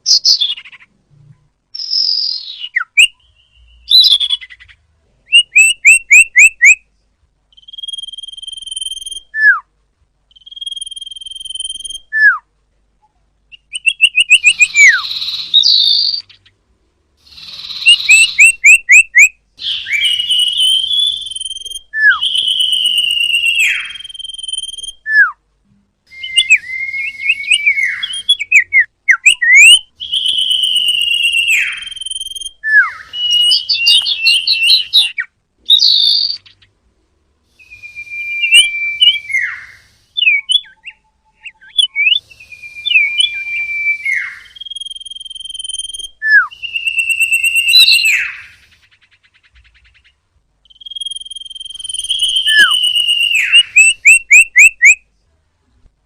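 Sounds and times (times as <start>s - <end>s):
bird singing and calling: 0.0s - 0.9s, 1.8s - 6.8s, 7.5s - 9.6s, 10.3s - 12.2s, 13.5s - 16.5s, 17.2s - 25.2s, 26.1s - 36.7s, 37.6s - 55.0s.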